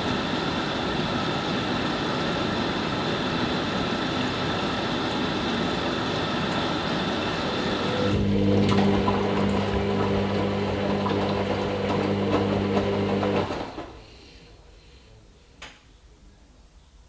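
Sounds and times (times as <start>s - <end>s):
washing machine running: 0.0s - 14.1s.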